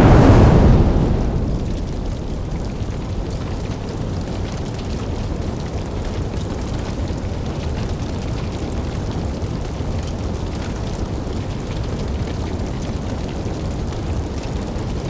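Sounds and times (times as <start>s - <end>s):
fire crackling: 0.0s - 15.0s
low rumble of flames: 0.0s - 15.0s.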